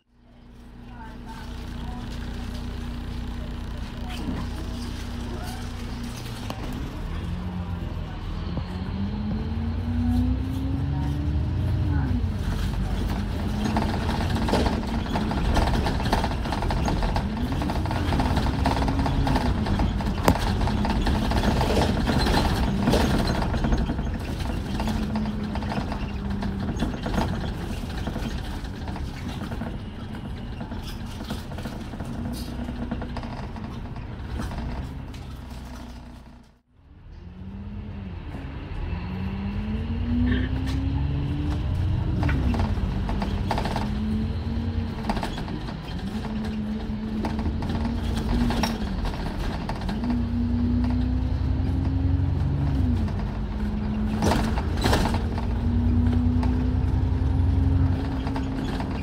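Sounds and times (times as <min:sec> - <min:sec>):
bus engine whining: 0:00.0 - 0:59.0.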